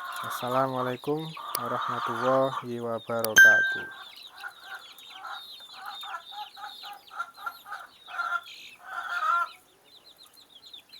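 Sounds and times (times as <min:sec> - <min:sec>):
chickens clucking: 0:00.0 - 0:10.9
chicks peeping: 0:00.0 - 0:10.9.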